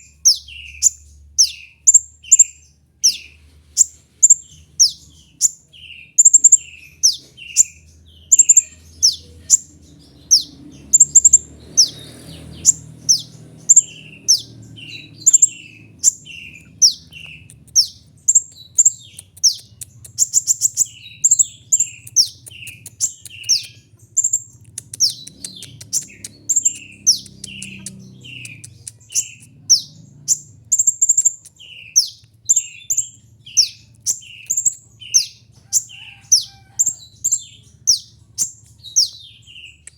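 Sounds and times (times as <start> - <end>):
sunbird high downward chirps: 0.0 - 39.9.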